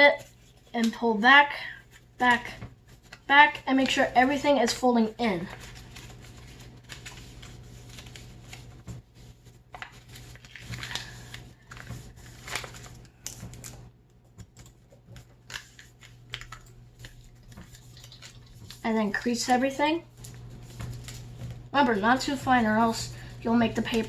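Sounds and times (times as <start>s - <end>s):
paper being folded and creased: 0.1s - 1.0s, 1.8s - 24.0s.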